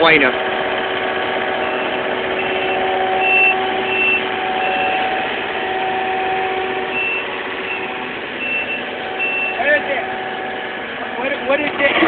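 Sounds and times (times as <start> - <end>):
diesel engine running: 0.0 - 12.0
reversing alarm beeping: 1.4 - 11.4.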